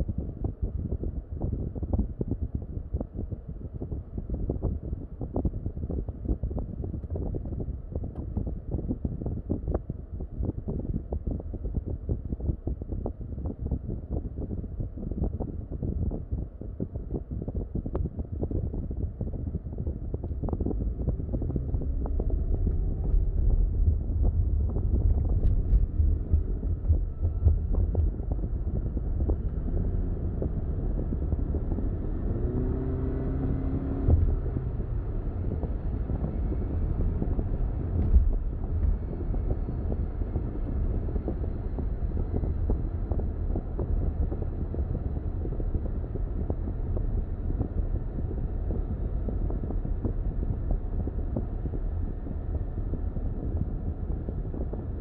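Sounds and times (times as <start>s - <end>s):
low road rumble: 0.0s - 55.0s
wind noise: 0.0s - 55.0s.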